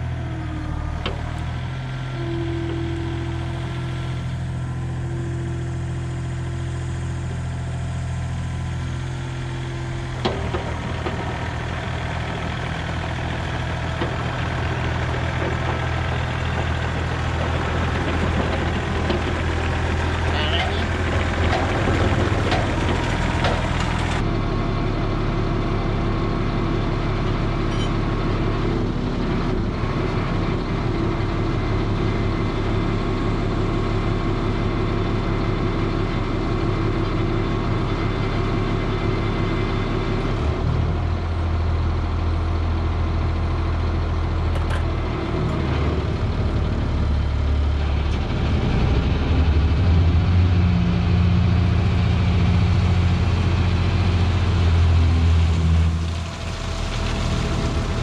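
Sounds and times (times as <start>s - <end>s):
vehicle engine running: 1.5s - 58.0s.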